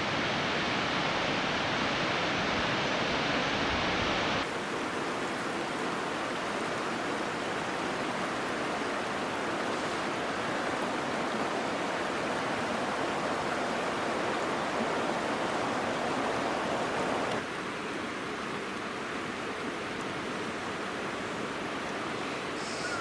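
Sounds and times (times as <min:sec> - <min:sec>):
waterfall and stream rushing: 0:00.0 - 0:23.0.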